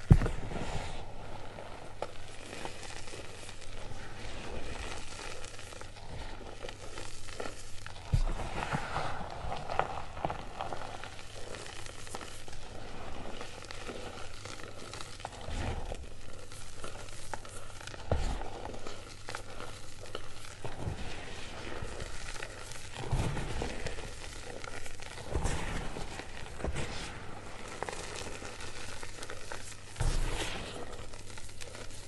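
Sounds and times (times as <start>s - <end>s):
chalk crunching and crumbling: 0.0s - 32.0s
powder sifting down: 0.0s - 32.0s.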